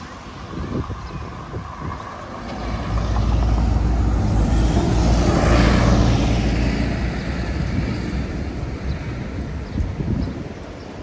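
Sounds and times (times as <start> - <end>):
bus engine rumble: 0.0 - 11.0.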